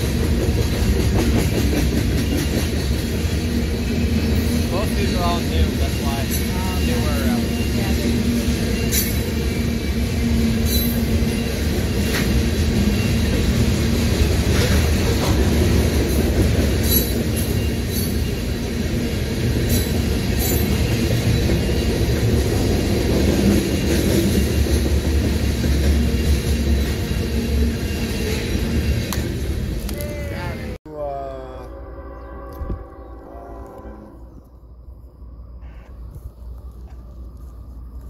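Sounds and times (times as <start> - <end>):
train wheels rumbling on rails: 0.0 - 30.8.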